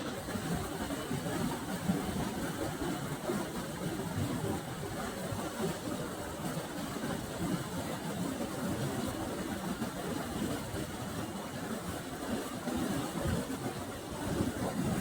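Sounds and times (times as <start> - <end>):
water rushing over weir: 0.0 - 15.0.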